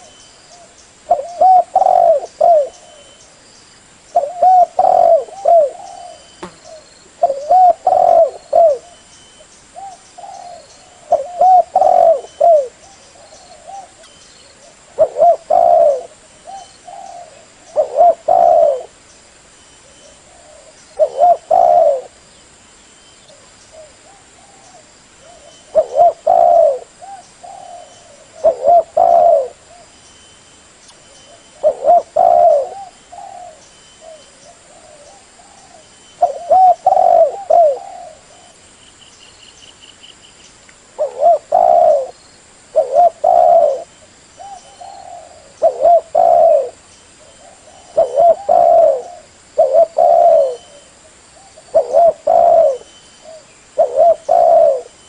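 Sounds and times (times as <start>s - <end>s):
dove cooing: 0.0s - 3.2s, 4.1s - 9.0s, 9.8s - 19.0s, 19.8s - 22.2s, 23.3s - 29.9s, 31.1s - 38.6s, 41.0s - 55.0s.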